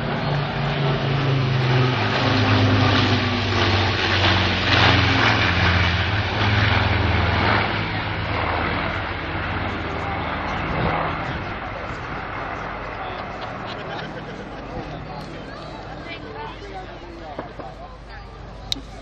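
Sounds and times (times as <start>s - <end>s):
piston aircraft engines droning: 0.0s - 19.0s.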